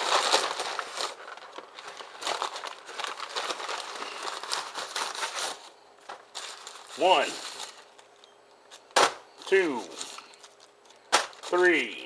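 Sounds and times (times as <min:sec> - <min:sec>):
food wrappers crinkling: 0:00.0 - 0:12.0.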